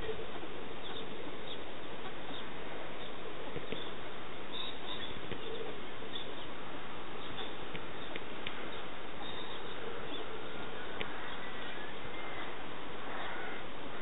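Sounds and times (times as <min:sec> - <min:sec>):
steady background hiss: 0:00.0 - 0:14.0
faint bird chirps: 0:00.8 - 0:06.6, 0:07.2 - 0:13.6.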